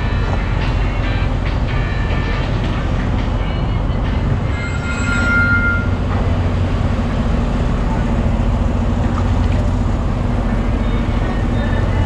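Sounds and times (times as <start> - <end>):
diesel truck engine humming: 0.0 - 4.5, 5.5 - 12.0.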